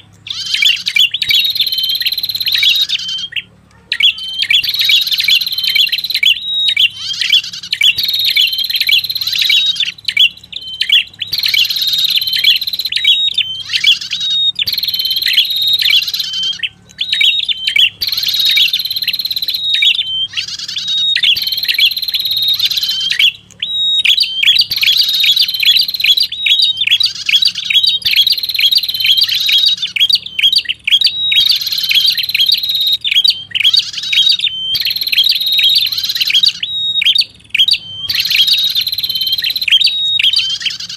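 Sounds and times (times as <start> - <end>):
bird calling with sharp chirps: 0.0 - 40.9.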